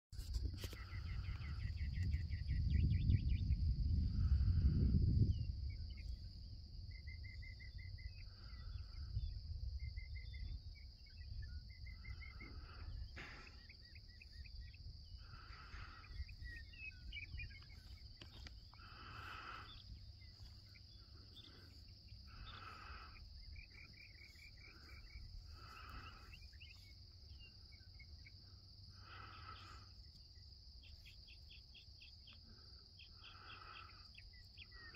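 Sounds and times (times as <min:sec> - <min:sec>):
insect drone: 0:00.2 - 0:34.9
lower insect call: 0:00.2 - 0:34.9
pulsed chirping trills: 0:06.9 - 0:34.9.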